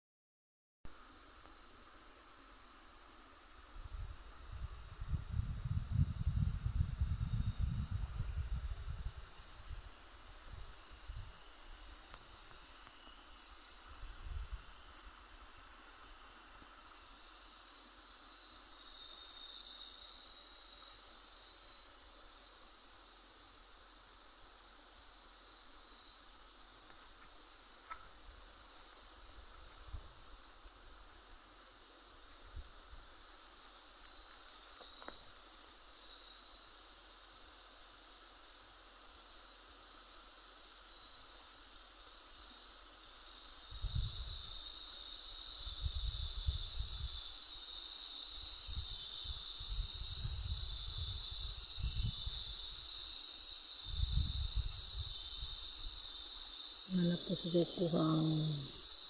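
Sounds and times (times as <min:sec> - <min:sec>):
insects chirring: 0:00.9 - 0:59.0.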